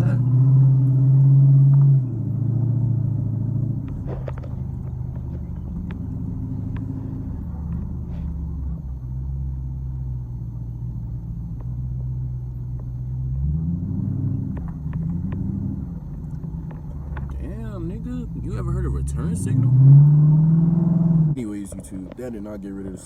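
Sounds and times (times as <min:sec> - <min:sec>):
car engine low drone: 0:00.0 - 0:23.0.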